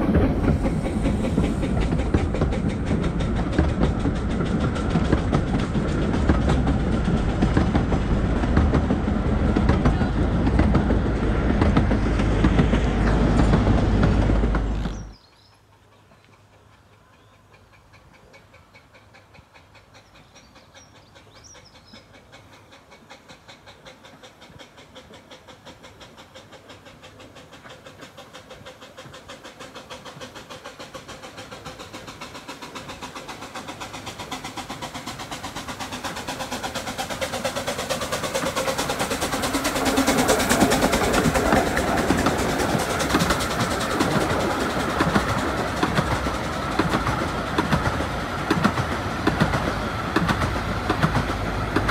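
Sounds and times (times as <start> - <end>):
steam locomotive exhaust beats: 0.0 - 51.9
train coaches clickety-clack: 0.0 - 51.9.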